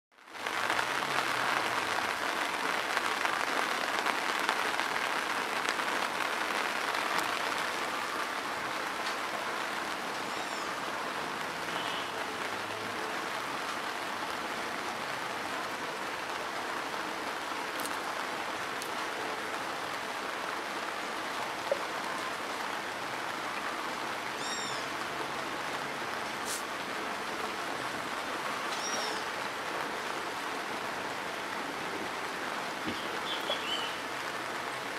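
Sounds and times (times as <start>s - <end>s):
rain on a dirt road: 0.1s - 34.9s.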